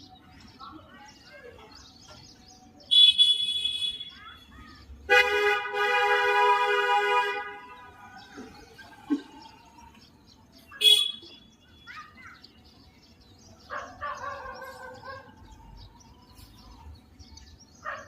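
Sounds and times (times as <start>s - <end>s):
small birds chirping: 0.0s - 5.1s, 7.5s - 18.0s.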